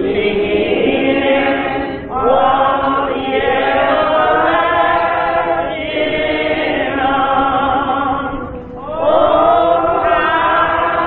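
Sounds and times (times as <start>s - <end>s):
choir singing gospel song: 0.0s - 11.0s.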